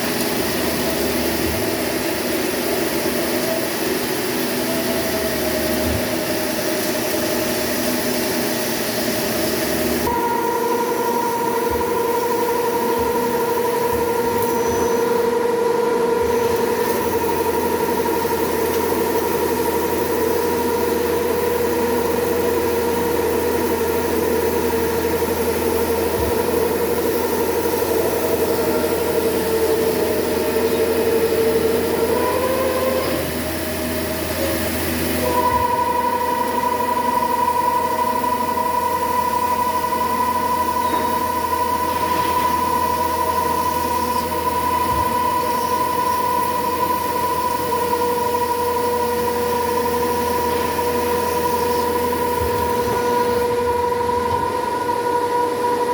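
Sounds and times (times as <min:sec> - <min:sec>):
low machine hum: 0:00.0 - 0:55.9
machine spindle whine: 0:00.0 - 0:55.9.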